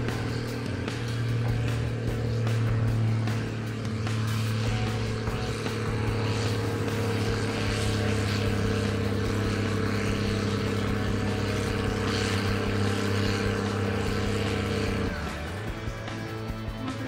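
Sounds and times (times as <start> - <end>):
diesel tractor engine droning: 0.0 - 17.0.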